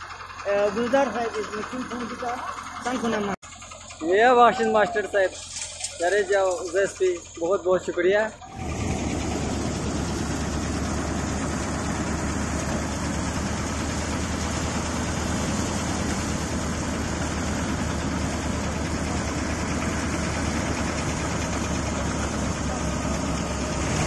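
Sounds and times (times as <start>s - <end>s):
threshing drum whirring: 0.0s - 24.0s
tractor engine droning: 0.0s - 24.0s.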